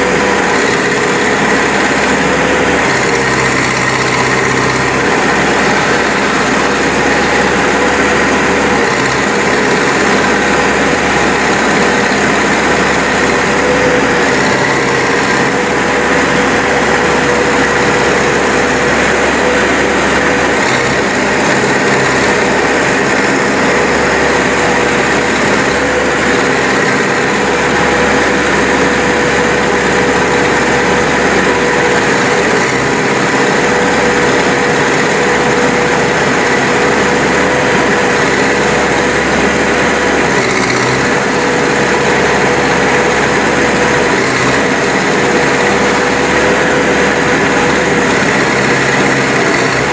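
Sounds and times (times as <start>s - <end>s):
diesel engine running with whine: 0.0s - 49.9s.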